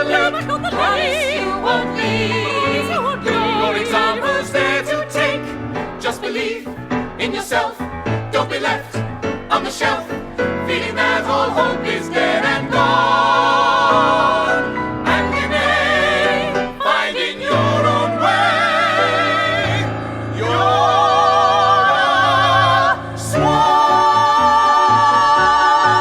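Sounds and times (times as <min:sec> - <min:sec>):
musical accompaniment with bass: 0:00.0 - 0:26.0
voices singing with vibrato: 0:00.0 - 0:26.0.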